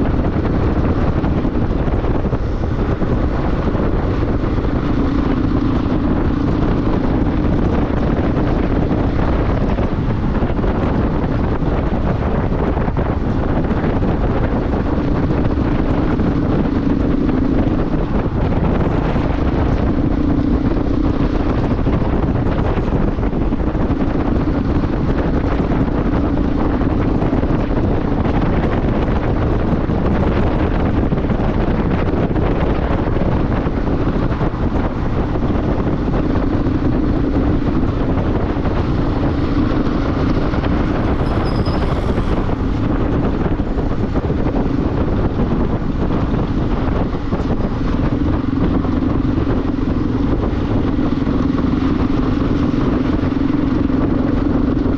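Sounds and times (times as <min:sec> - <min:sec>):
motorcycle engine running: 0:00.0 - 0:54.9
wind buffeting microphone: 0:00.0 - 0:54.9.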